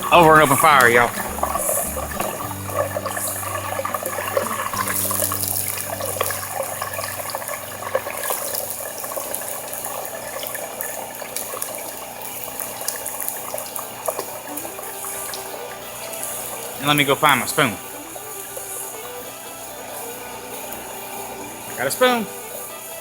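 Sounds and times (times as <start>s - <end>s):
fries sizzling in hot oil: 0.0s - 23.0s.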